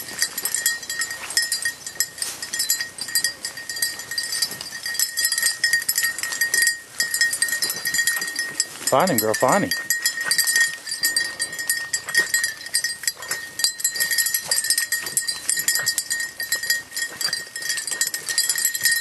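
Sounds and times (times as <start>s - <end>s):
dog collar bells jingling: 0.0s - 19.0s
high ringing tone: 0.0s - 19.0s.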